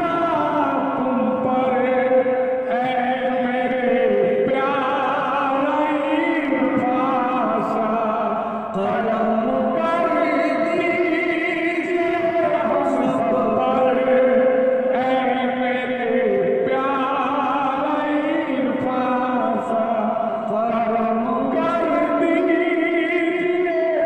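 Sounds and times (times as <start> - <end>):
man singing devotional chant: 0.0 - 24.0.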